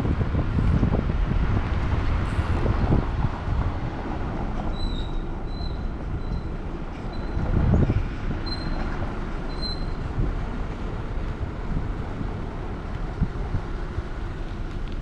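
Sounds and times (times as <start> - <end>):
car road rumble: 0.0 - 15.0
wind noise gusts: 0.0 - 15.0.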